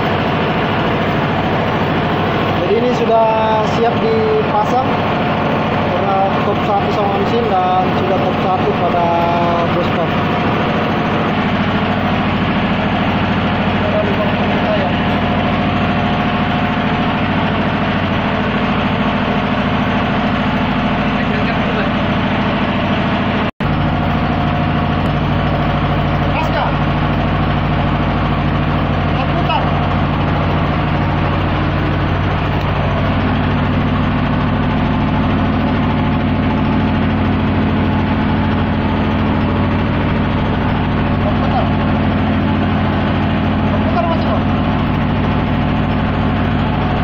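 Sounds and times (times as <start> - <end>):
heavy engine humming: 0.0 - 47.0.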